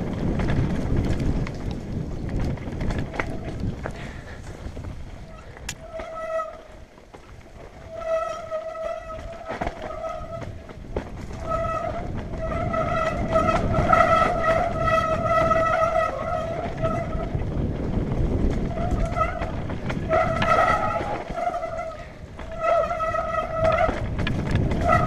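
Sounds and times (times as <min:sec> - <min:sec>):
bike rattle on rocky trail: 0:00.0 - 0:25.0
disc brakes howling: 0:00.0 - 0:25.0.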